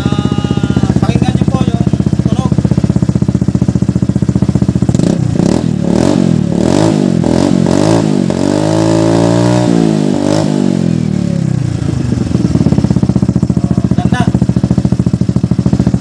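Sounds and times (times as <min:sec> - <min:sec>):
scooter engine revving: 0:00.0 - 0:16.0.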